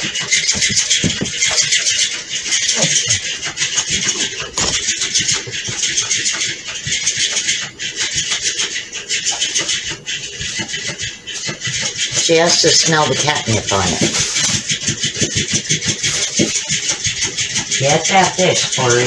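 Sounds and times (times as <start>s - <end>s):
fabric fish flapping: 0.0s - 17.7s
toy motor buzzing whir: 0.0s - 19.0s.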